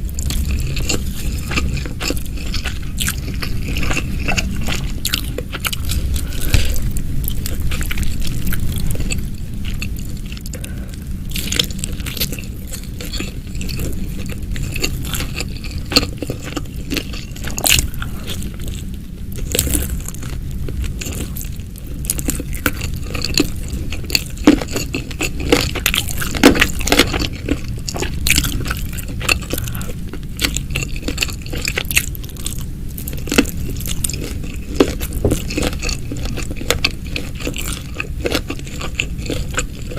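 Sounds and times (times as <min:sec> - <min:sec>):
person biting and chewing food: 0:00.0 - 0:39.9.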